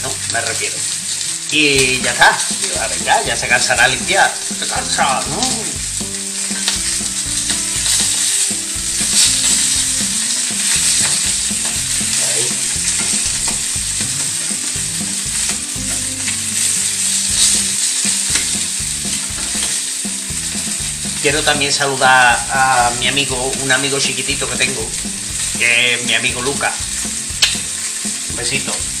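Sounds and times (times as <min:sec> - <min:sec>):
sausages sizzling in a pan: 0:00.0 - 0:29.0
tongs scraping and knocking pan: 0:01.2 - 0:29.0.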